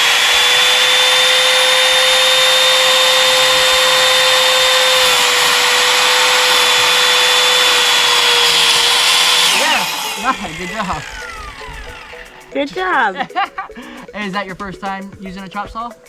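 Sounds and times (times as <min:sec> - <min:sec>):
chop saw cutting wood: 0:00.0 - 0:13.4.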